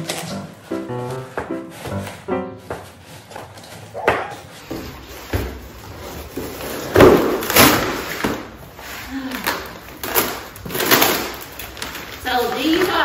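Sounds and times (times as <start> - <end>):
cardboard scraping and flapping: 0.0 - 13.0
plastic wrapping crinkling: 0.0 - 13.0.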